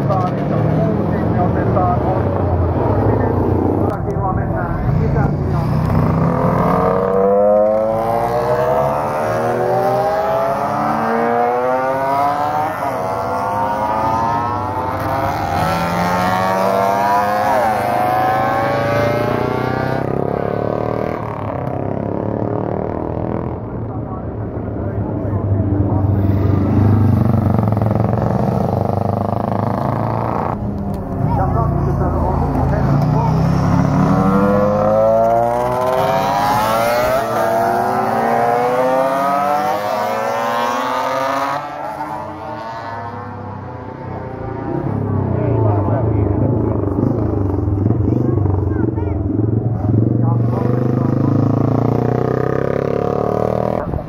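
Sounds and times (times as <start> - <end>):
motorcycle engines accelerating: 0.0 - 54.0.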